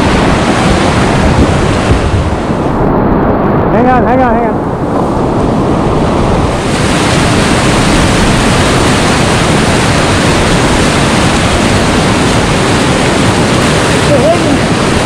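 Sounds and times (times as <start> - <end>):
whitewater rapids rushing: 0.0 - 2.7, 5.2 - 15.0.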